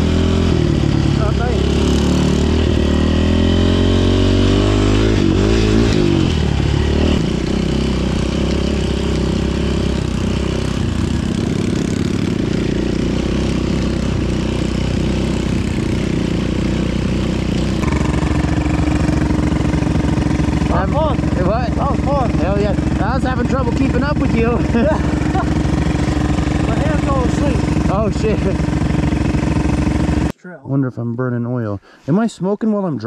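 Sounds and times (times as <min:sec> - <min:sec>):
dirt bike engine revving: 0:00.0 - 0:30.3.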